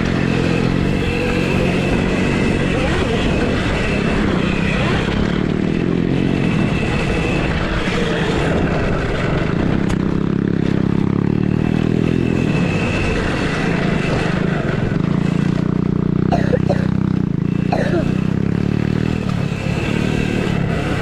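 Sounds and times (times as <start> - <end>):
motocross bikes engine drone: 0.0 - 21.0.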